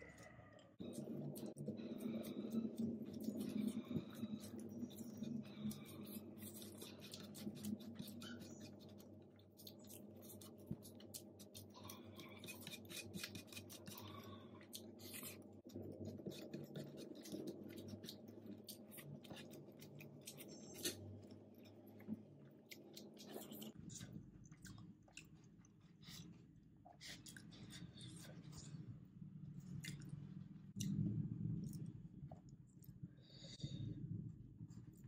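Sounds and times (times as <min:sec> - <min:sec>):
chewing noodles: 0:00.0 - 0:28.8
faint steady hum: 0:00.0 - 0:35.0.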